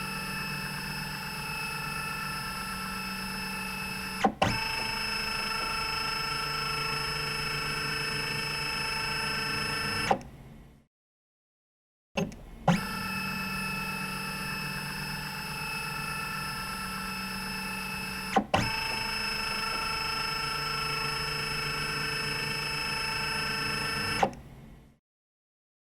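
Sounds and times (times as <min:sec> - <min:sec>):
scanner motor whining: 0:00.0 - 0:10.2, 0:12.7 - 0:24.3.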